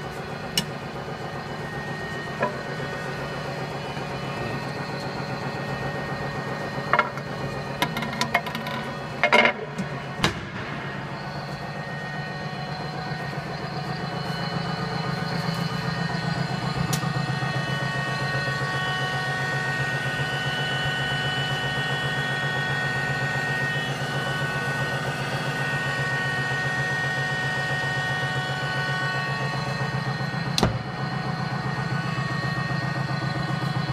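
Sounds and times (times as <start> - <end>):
gear shaping machine whining: 0.0 - 33.9.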